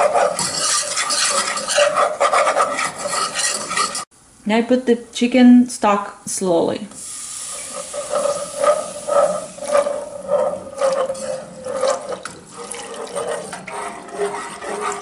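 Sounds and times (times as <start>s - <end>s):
whisk strokes in a pan: 0.0s - 4.1s, 7.0s - 15.0s.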